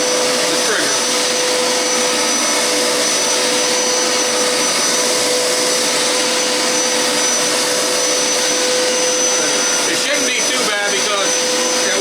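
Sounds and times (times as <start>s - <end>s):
carpet cleaner running: 0.0s - 12.0s.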